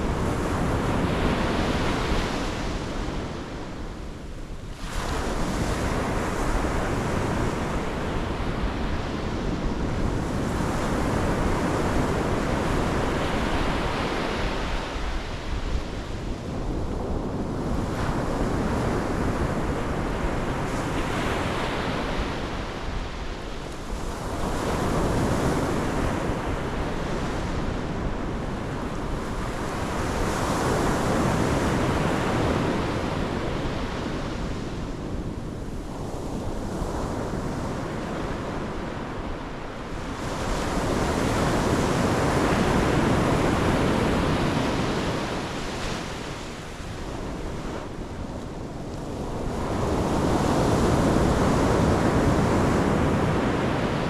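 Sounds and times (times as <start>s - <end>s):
ocean surf breaking on shore: 0.0s - 54.0s.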